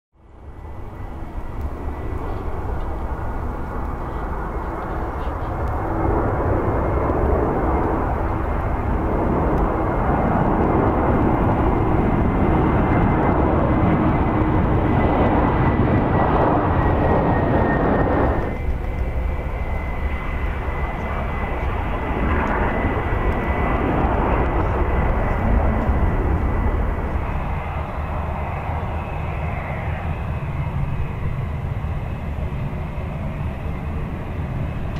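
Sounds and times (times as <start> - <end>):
lower jet noise: 0.1 - 34.9
jet rumble with high whine: 0.2 - 34.9.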